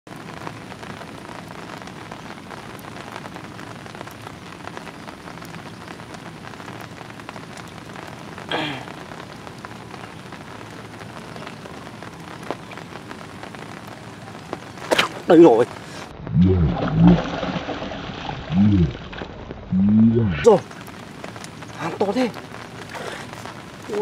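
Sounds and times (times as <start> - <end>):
heavy rain: 0.1 - 24.0.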